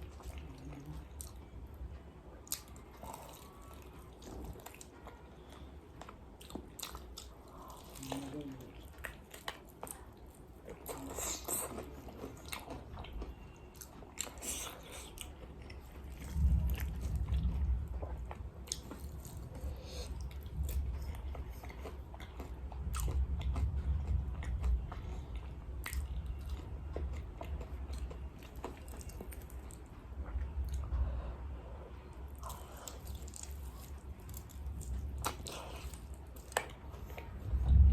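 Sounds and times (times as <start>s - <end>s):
heavy chewing: 0.0s - 37.7s.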